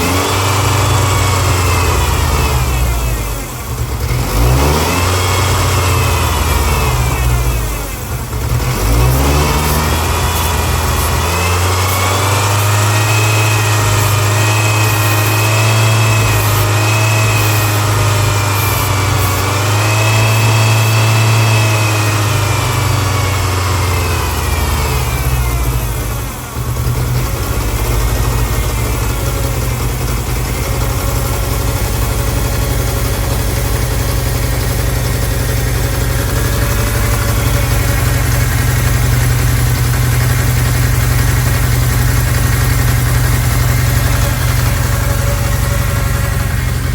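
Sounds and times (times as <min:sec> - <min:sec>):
car engine revving and idling: 0:00.0 - 0:46.9.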